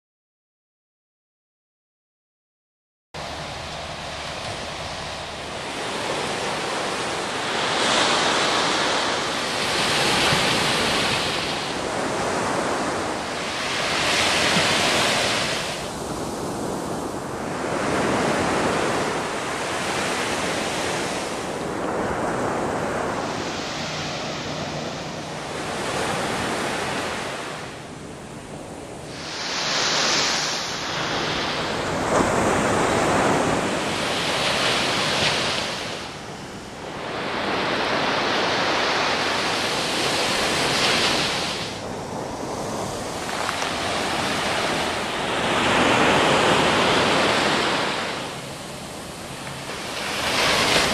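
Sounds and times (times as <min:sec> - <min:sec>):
waves breaking on sand: 0:03.2 - 0:50.9.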